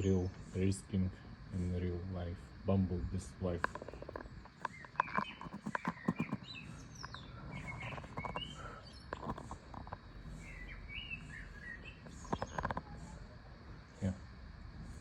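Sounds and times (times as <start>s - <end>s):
songbirds chirping and singing: 0.0s - 14.2s
background hiss: 0.0s - 15.0s.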